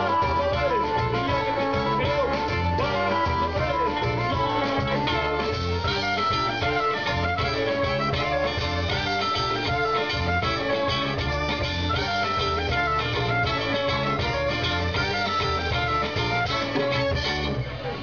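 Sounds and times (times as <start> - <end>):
soprano saxophone melody: 0.0 - 17.5
guitar strumming: 0.0 - 18.0.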